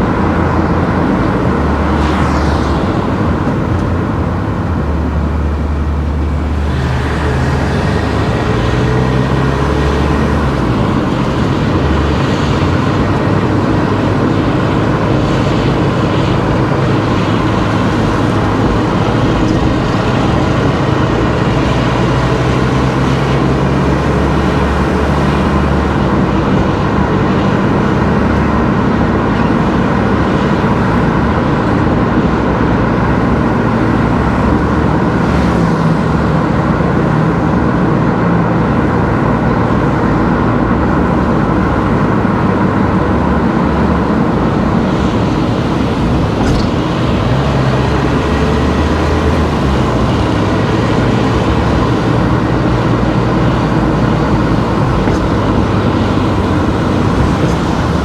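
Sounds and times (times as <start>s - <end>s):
car engine: 0.0s - 58.0s
tyre noise on road: 0.0s - 58.0s.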